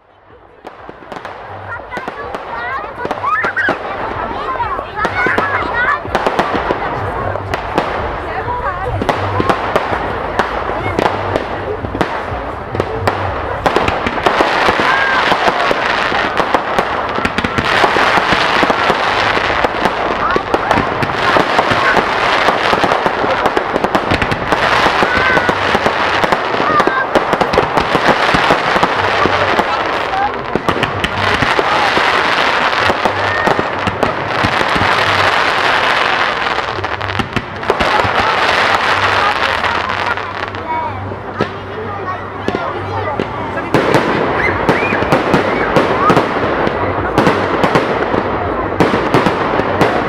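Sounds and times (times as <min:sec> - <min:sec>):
crowd voices: 0:00.0 - 0:50.0
fireworks crackling and popping: 0:00.0 - 0:50.0.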